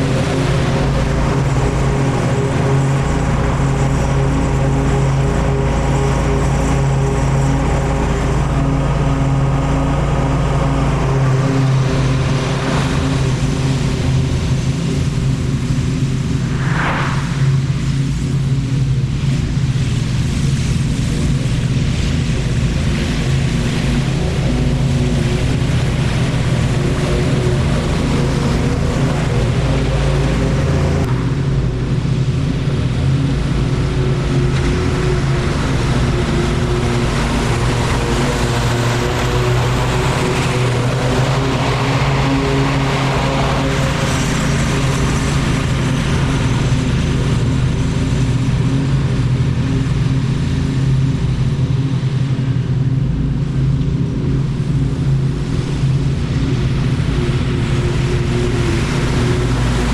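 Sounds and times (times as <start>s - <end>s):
lawn mower engine cutting grass: 0.0s - 59.9s.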